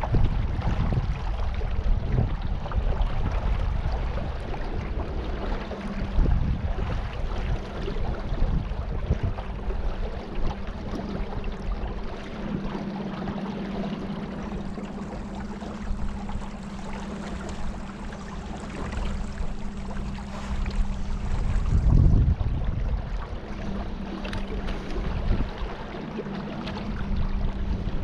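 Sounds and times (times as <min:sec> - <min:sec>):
boat motor humming: 0:00.0 - 0:28.0
water rushing: 0:00.0 - 0:28.0.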